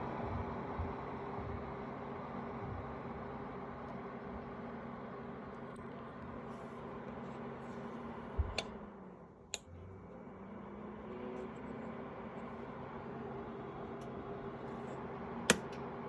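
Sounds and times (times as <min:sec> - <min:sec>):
heater fan hum: 0:00.0 - 0:16.0.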